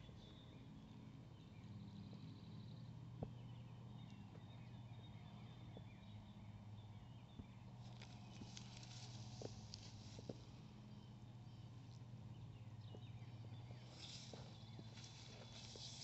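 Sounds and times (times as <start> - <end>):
faint bird chirps: 0.0 - 16.0
low steady hum: 0.0 - 16.0.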